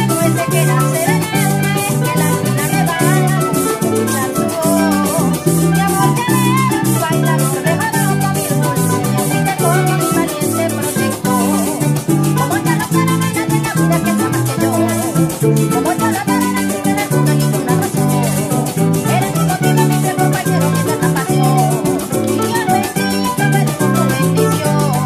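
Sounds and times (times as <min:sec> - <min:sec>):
shaken maraca rhythm: 0:00.0 - 0:25.0
string band with maracas and bass: 0:00.0 - 0:25.0
walking bass line: 0:00.0 - 0:25.0
woman singing: 0:00.0 - 0:25.0.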